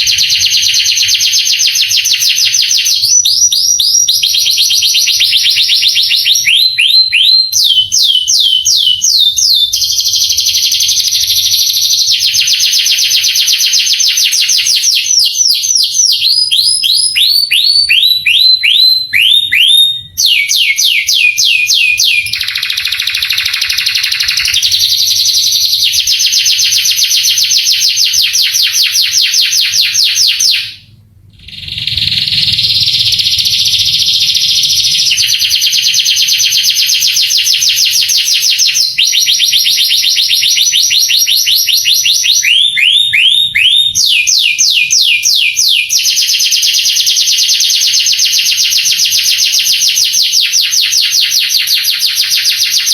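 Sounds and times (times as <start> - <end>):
canary singing rapid trills: 0.0 - 52.9.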